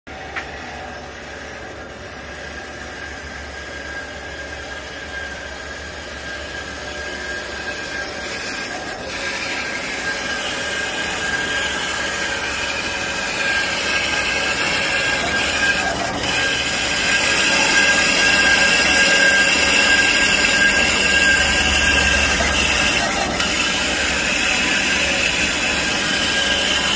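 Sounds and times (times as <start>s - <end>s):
band saw cutting steel pipe: 0.1s - 26.9s.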